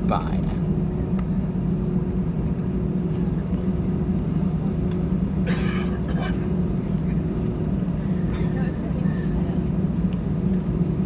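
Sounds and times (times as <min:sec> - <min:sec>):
jet cabin engine rumble: 0:00.0 - 0:11.0.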